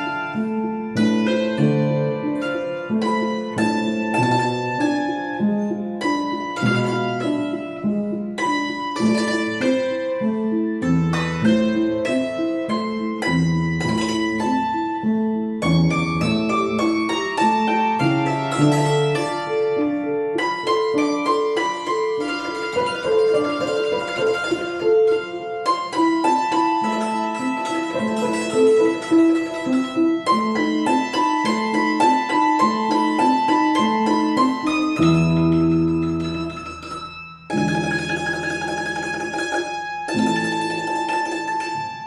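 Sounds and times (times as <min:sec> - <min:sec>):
piano accompaniment: 0:00.0 - 0:42.0
plucked string instrument: 0:00.0 - 0:42.0.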